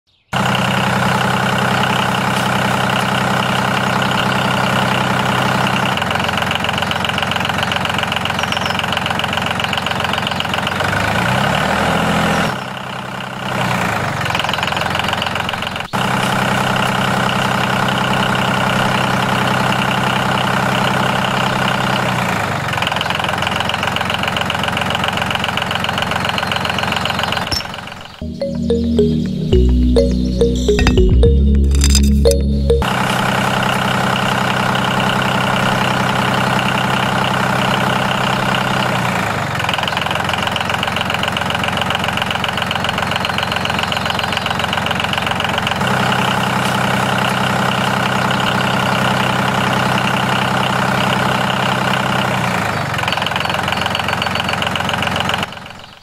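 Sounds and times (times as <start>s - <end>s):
engine idling: 0.4s - 11.1s, 12.6s - 28.2s, 32.9s - 55.9s.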